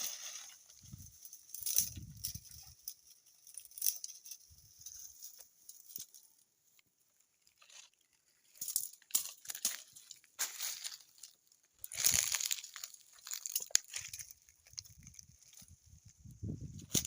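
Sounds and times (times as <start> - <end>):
crunching and rustling: 0.0 - 6.4, 7.2 - 17.0.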